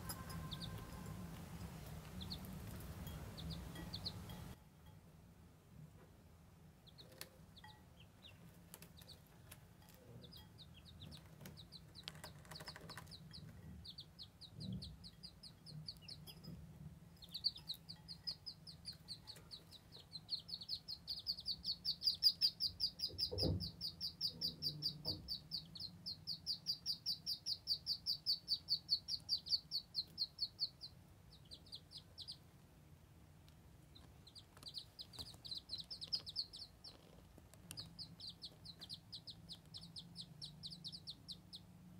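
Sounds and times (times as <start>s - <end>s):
ducklings peeping: 0.0s - 4.6s, 6.8s - 9.5s, 10.2s - 32.6s, 33.6s - 41.9s.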